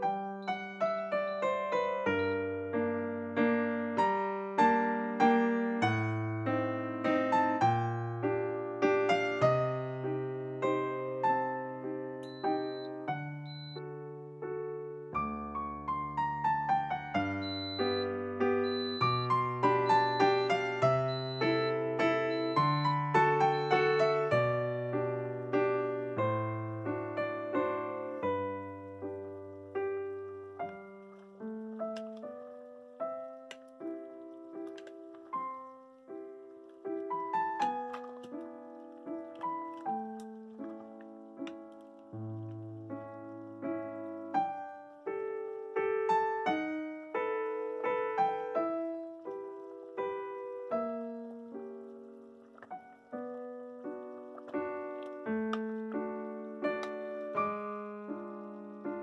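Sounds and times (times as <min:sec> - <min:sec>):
gentle piano music: 0:00.0 - 0:59.0.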